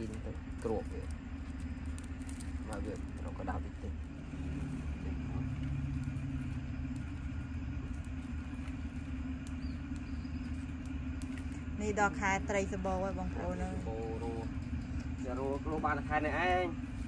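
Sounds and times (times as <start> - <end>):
low motor rumble: 0.0 - 17.0
steady hum: 0.0 - 17.0.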